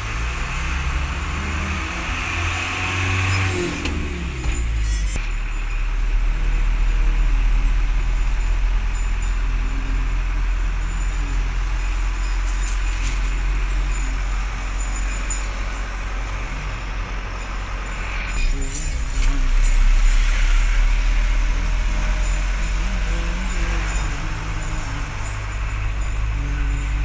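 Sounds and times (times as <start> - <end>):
road noise: 0.0 - 27.0
truck engine rumbling: 0.0 - 27.0.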